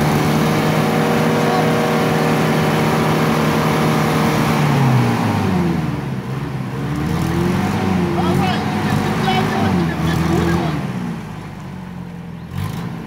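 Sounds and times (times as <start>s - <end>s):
engine revving under load: 0.0s - 13.0s.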